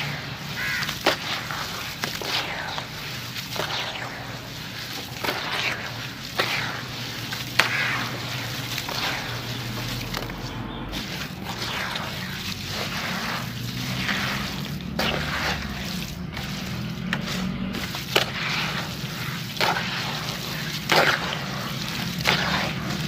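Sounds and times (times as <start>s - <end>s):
wet concrete squishing and splashing: 0.0s - 23.0s.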